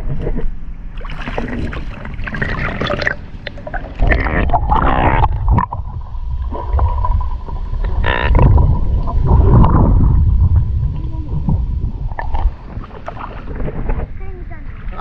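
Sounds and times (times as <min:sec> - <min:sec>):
underwater gurgling and sloshing: 0:00.0 - 0:15.0.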